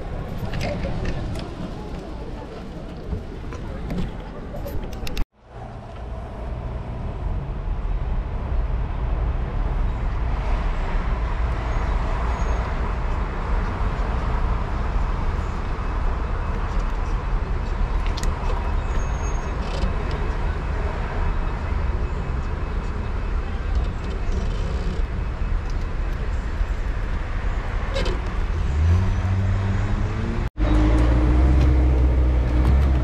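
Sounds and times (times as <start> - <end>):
vehicle rumble and road noise: 0.0 - 33.0.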